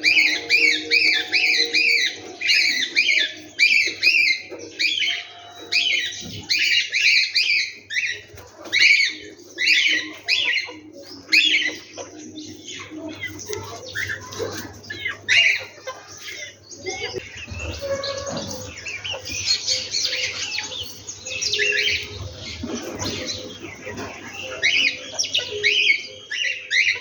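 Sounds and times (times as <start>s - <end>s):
bird singing: 0.0s - 27.0s.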